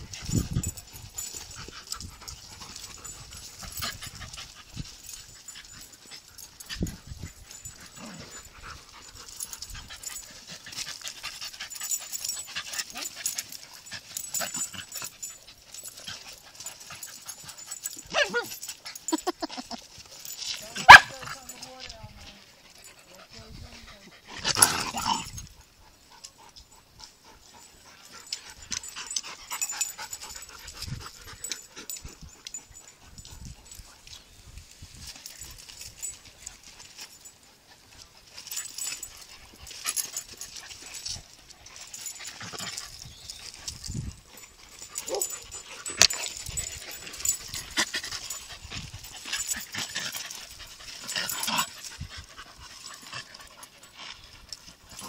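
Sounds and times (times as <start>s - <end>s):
dogs scuffling on gravel: 0.0s - 25.3s, 33.6s - 55.0s.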